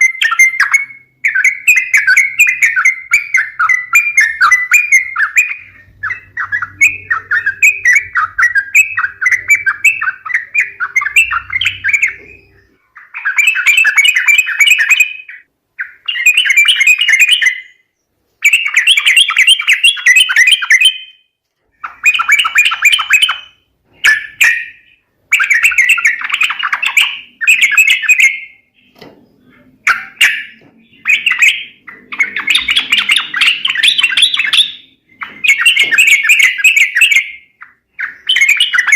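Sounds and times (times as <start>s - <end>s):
bird chattering calls: 0.0s - 17.8s, 18.4s - 38.9s.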